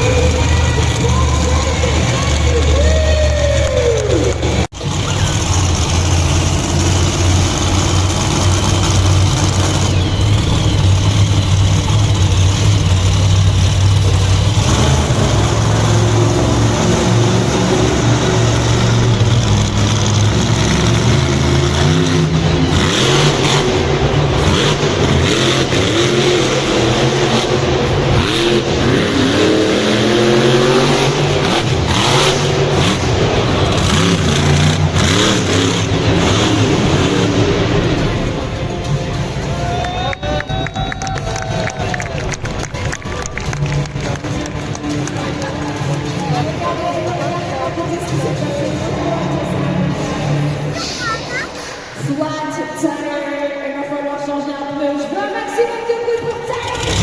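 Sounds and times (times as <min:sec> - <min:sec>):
monster truck engine revving: 0:00.0 - 0:52.2, 0:56.1 - 0:57.0.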